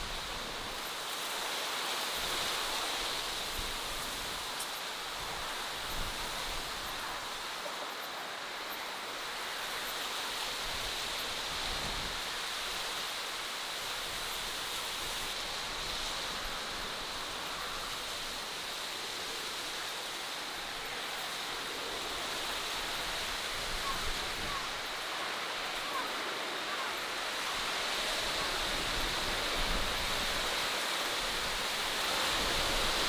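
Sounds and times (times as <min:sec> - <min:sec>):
rushing hiss of outdoor ambience: 0:00.0 - 0:33.0.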